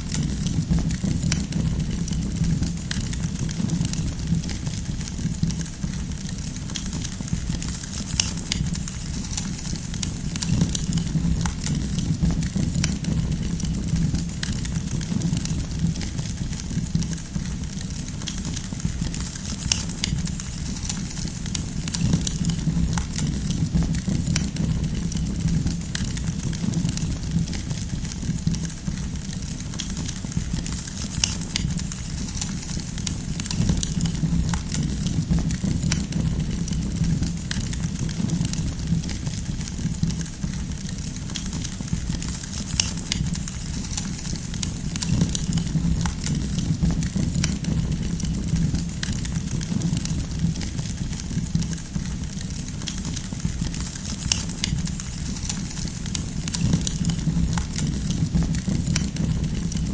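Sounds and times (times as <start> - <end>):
firewood crackling and popping: 0.0 - 59.9
low rush of flames: 0.0 - 59.9.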